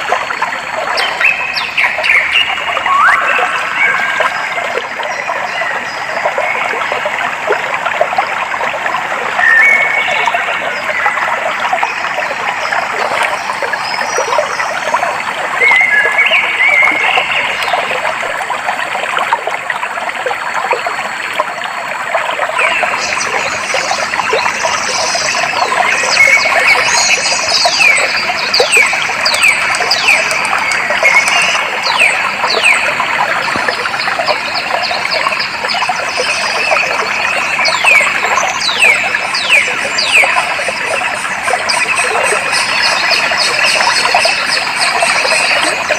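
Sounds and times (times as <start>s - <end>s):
stream water flowing: 0.0s - 45.9s.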